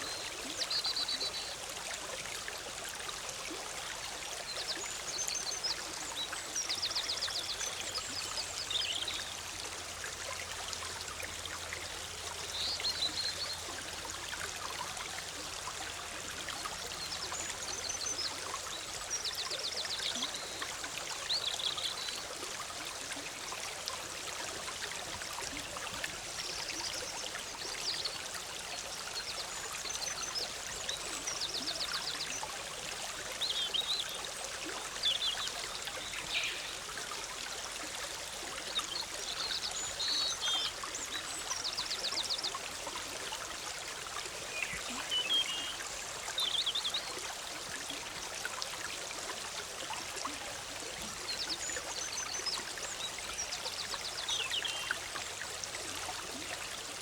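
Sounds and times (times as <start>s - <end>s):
stream bubbling and trickling: 0.0s - 57.0s.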